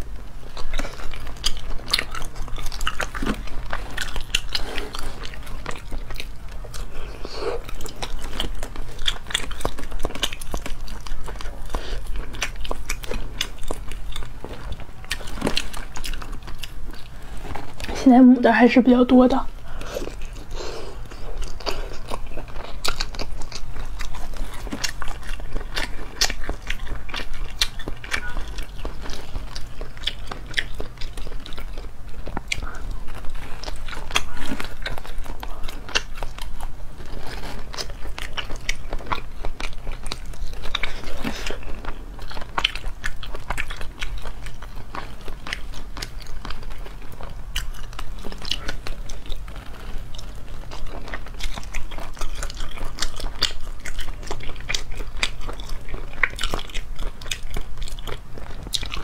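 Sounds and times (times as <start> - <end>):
chewing and biting squid: 0.0 - 18.0, 19.6 - 59.0
faint low hum: 0.0 - 59.0.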